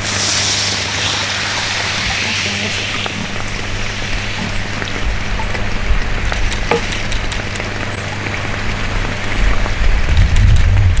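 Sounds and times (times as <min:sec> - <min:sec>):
lake water splashing and dripping: 0:00.0 - 0:09.8
wind rumble on microphone: 0:01.0 - 0:11.0.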